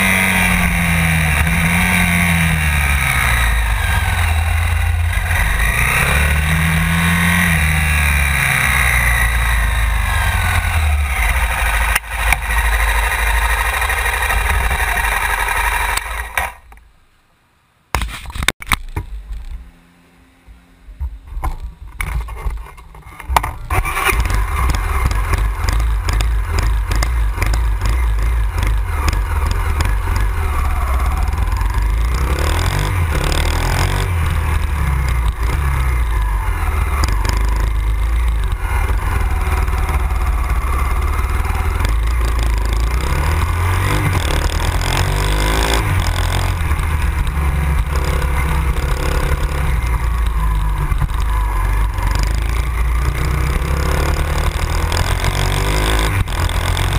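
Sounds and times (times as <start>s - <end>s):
motorcycle engine rumbling: 0.0s - 17.1s, 18.3s - 56.9s.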